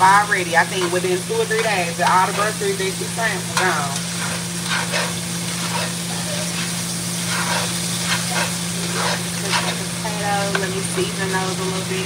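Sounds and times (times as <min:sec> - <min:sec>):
constant low hum: 0:00.0 - 0:12.0
potatoes sizzling in a pan: 0:00.0 - 0:12.0.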